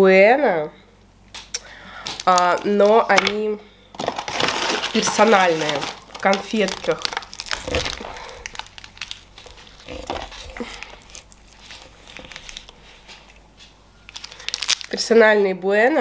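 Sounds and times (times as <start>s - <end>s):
candy wrappers crinkling: 1.4s - 3.4s, 4.0s - 15.2s.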